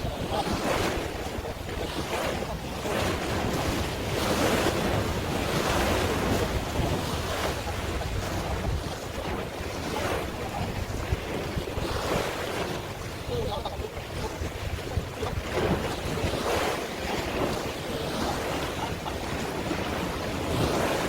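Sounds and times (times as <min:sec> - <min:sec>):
waves washing: 0:00.0 - 0:21.0
wind rushing over microphone: 0:00.0 - 0:21.0.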